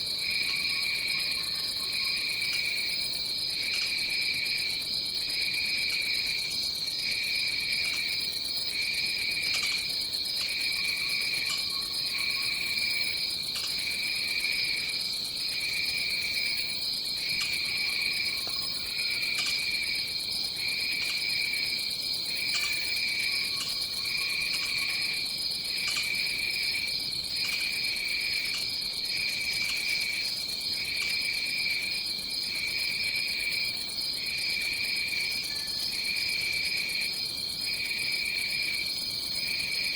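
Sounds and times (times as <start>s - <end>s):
constant high insect trill: 0.0s - 39.9s.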